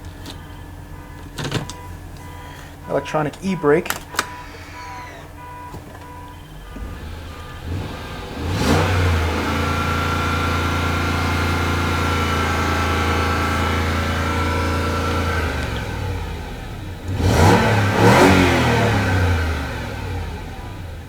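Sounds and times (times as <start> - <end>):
car engine starting and running: 0.0 - 21.0
high engine whine: 0.0 - 21.0.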